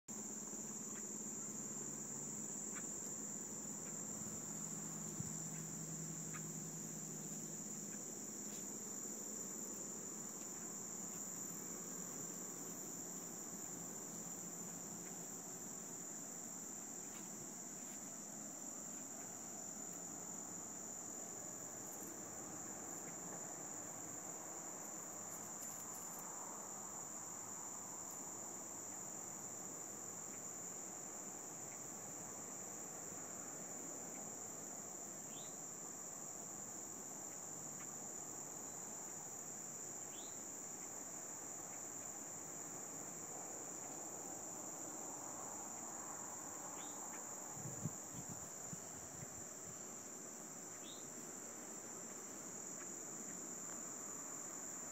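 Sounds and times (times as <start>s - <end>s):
insects trilling: 0.1s - 54.9s.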